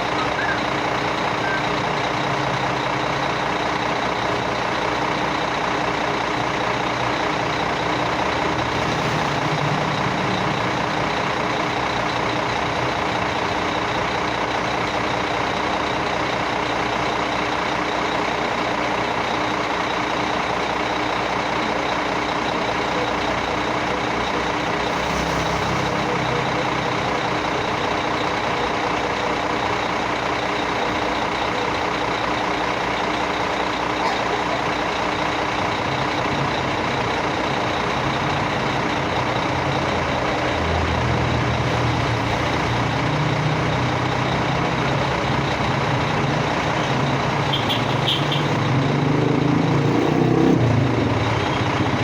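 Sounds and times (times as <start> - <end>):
heavy vehicle engine running: 0.0 - 52.0.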